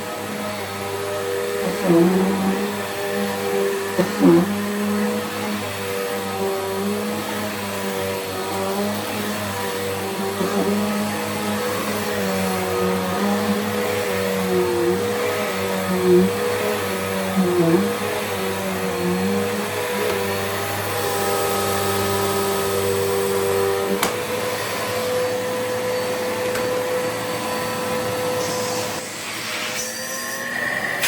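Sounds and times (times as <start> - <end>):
vacuum cleaner running on carpet: 0.0 - 31.0.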